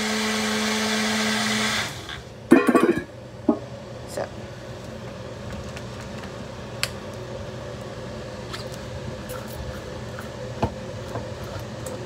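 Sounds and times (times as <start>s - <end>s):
low appliance hum: 0.0s - 12.0s.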